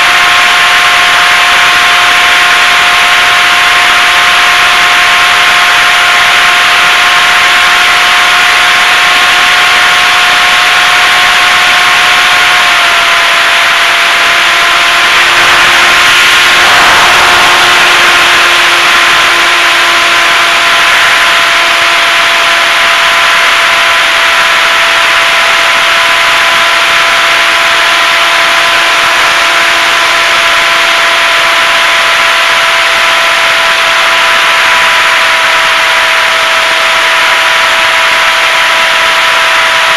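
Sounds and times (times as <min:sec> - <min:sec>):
electric motor and propeller whining: 0:00.0 - 0:39.9.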